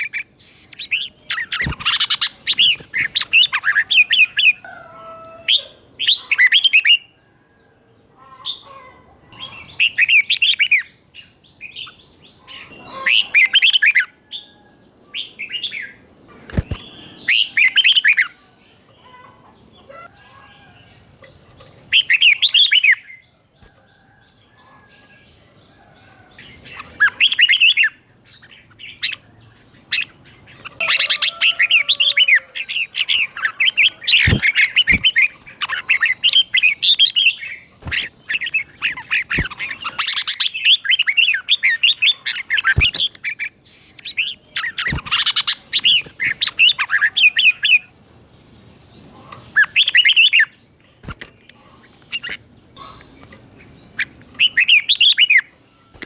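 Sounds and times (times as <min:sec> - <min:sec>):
bird warbling song: 0:00.0 - 0:07.1, 0:08.2 - 0:56.0.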